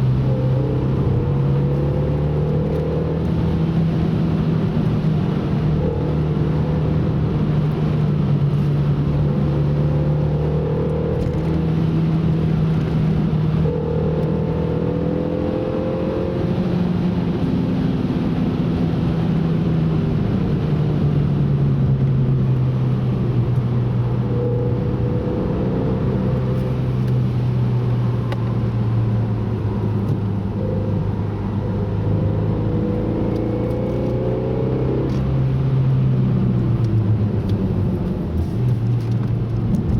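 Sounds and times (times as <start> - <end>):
car engine at speed: 0.0 - 39.9
road noise rushing: 0.0 - 39.9.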